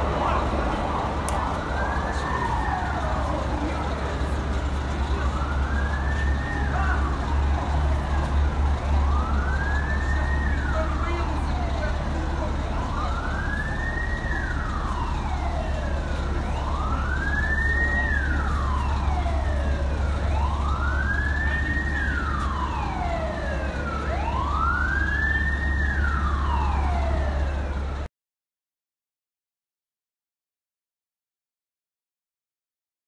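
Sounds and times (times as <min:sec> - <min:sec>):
emergency vehicle siren wailing: 0:00.0 - 0:28.1.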